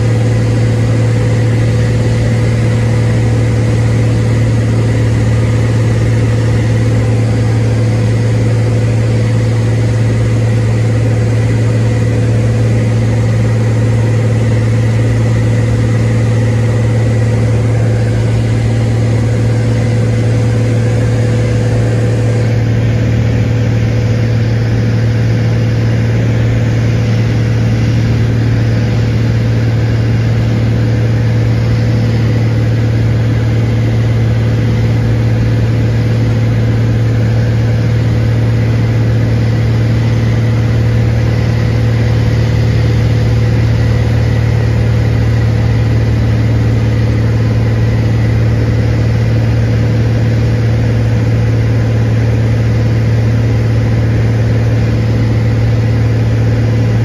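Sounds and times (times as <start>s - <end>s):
plane engine drone in cabin: 0.0s - 57.0s.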